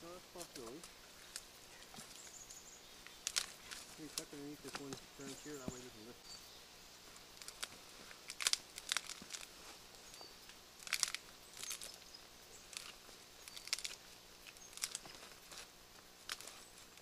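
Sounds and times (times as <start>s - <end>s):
twigs crackling and snapping: 0.4s - 6.0s, 7.0s - 17.0s.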